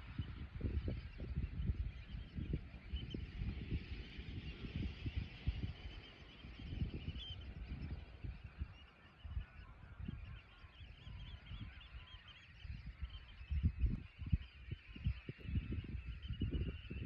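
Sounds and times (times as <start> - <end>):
flock of birds calling: 0.0 - 17.0
wind buffeting microphone: 0.0 - 17.0.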